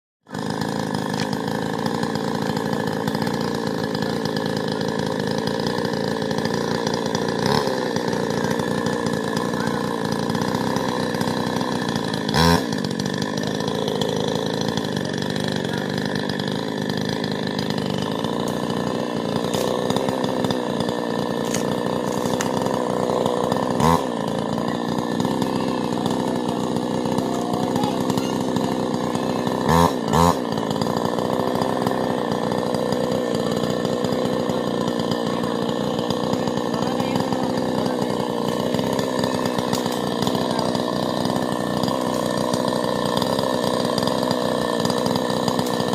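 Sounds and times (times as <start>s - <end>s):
chainsaw cutting a tree: 0.2s - 45.9s.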